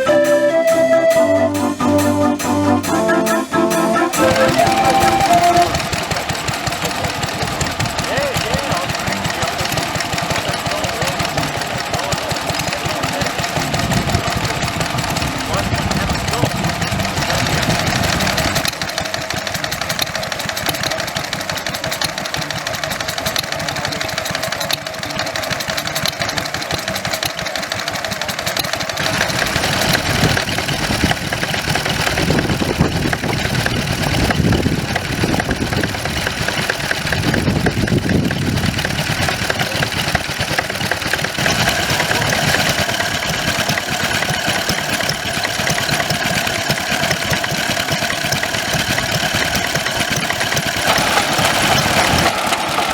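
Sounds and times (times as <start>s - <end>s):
stationary engines running: 0.0s - 52.9s.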